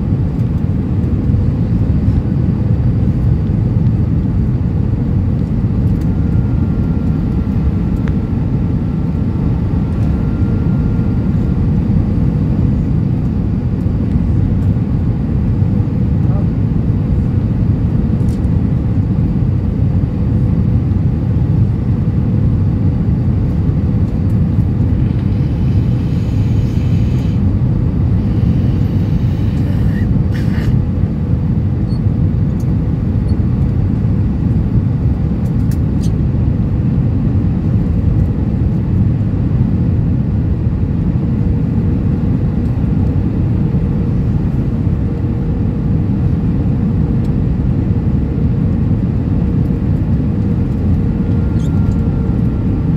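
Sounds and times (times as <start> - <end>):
aircraft cabin roar: 0.0 - 52.9
faint steady hum: 0.0 - 52.9.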